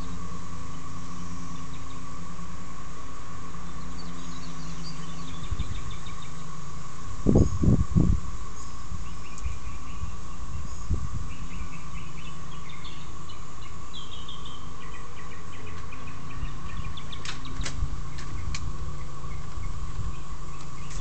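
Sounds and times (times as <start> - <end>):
birds chirping: 0.0 - 21.0
cicadas droning: 0.0 - 21.0
low motor rumble: 0.0 - 21.0.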